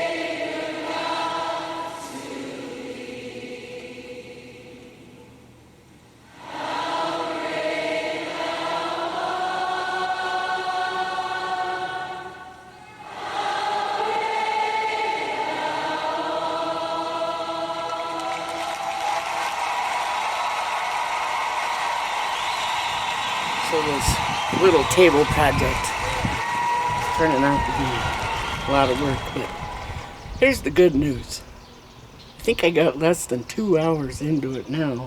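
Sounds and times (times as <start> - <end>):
choral music: 0.0 - 30.4.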